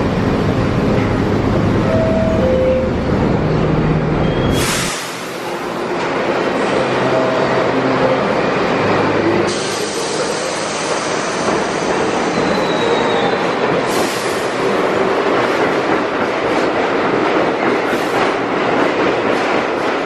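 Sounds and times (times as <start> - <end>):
subway train running: 0.0 - 20.0.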